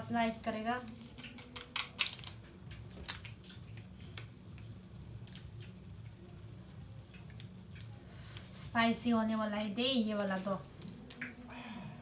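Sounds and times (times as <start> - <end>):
low steady hum: 0.0 - 12.0
noodles simmering in a pan: 0.0 - 12.0.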